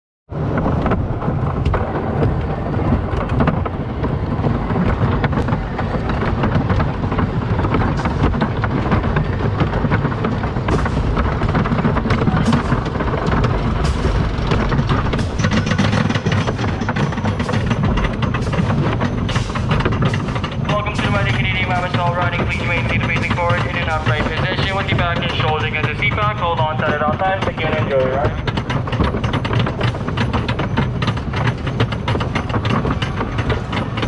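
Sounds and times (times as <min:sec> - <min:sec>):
roller coaster rumbling on track: 0:00.3 - 0:34.0
roller coaster sharp clacks: 0:00.3 - 0:34.0.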